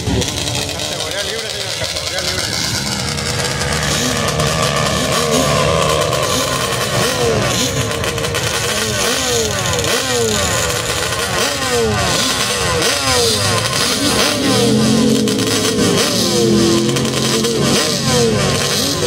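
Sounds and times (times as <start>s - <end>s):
quad engine revving in blips: 0.0s - 19.0s.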